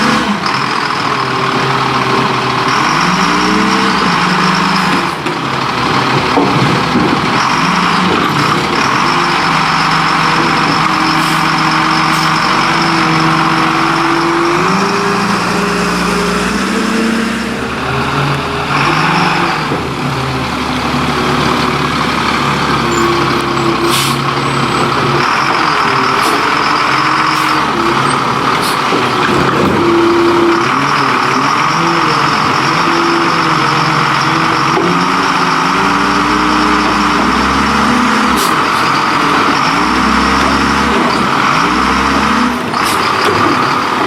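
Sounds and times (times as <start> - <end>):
garbage truck diesel engine: 0.0 - 44.0.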